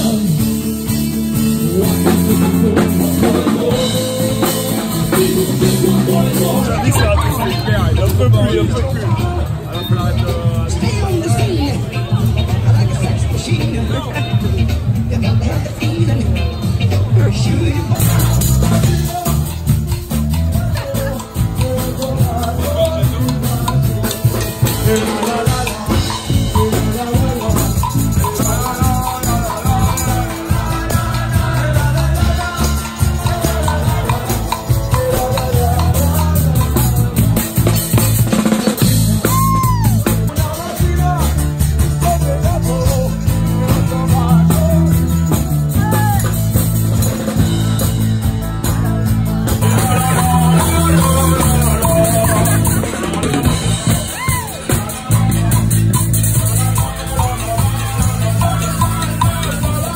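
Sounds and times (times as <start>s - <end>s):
drum kit played hard: 0.0s - 59.9s
low bass line: 0.0s - 59.9s.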